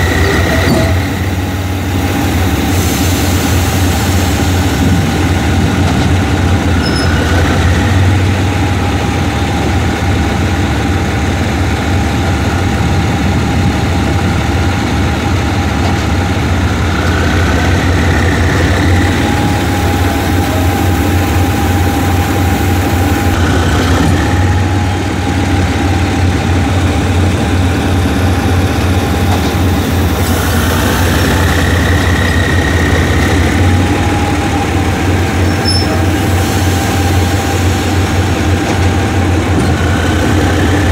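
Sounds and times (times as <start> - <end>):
diesel engine humming: 0.0 - 40.9
steady engine whine: 0.0 - 40.9.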